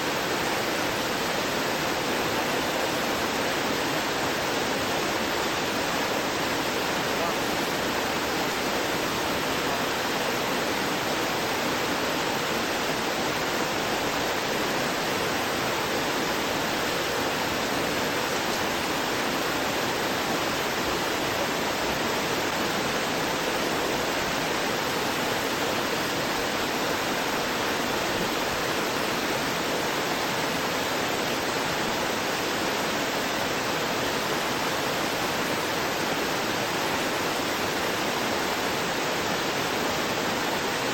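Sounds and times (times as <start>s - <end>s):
stream gurgling over rocks: 0.0s - 40.9s.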